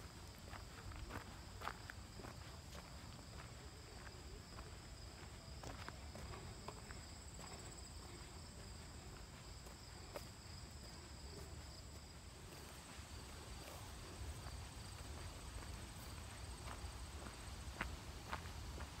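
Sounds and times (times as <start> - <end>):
soft footsteps on grass: 0.0 - 19.0
crickets trilling: 0.1 - 19.0.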